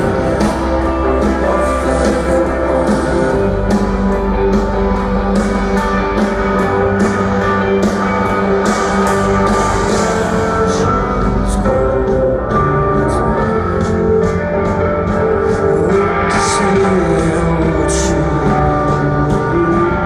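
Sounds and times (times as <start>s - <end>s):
bass line: 0.0s - 20.0s
drums and cymbal hits: 0.0s - 20.0s.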